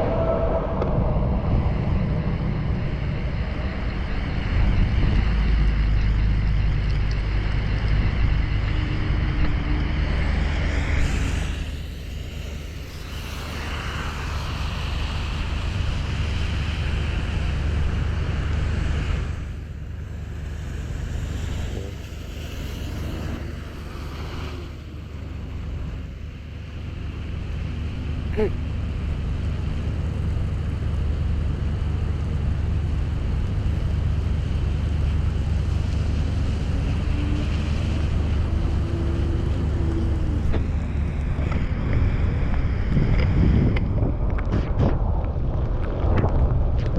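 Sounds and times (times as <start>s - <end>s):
wind buffeting microphone: 0.0s - 27.9s, 28.7s - 46.9s
tyres hissing on wet road: 1.6s - 43.1s.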